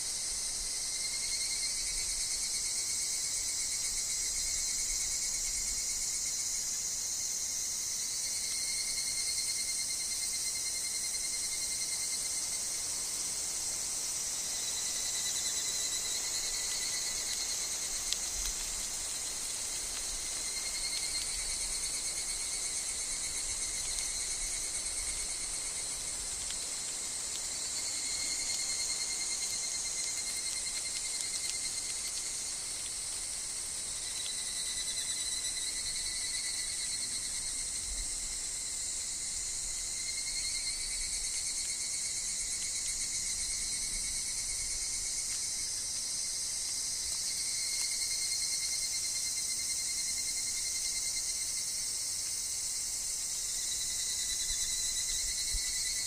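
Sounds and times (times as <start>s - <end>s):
cicadas and crickets chorus: 0.0s - 56.0s
evening cicada calls: 0.0s - 56.0s.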